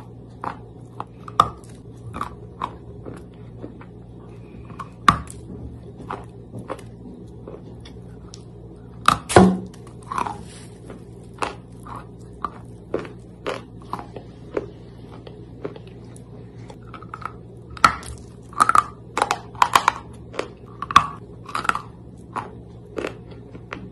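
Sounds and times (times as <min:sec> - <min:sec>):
chewing chalk crunches: 0:00.0 - 0:23.9.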